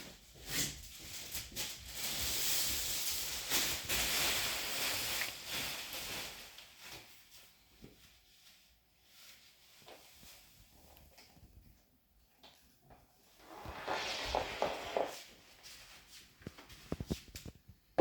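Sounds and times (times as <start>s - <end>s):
rustling handling noise: 0.0s - 11.8s, 12.5s - 18.0s.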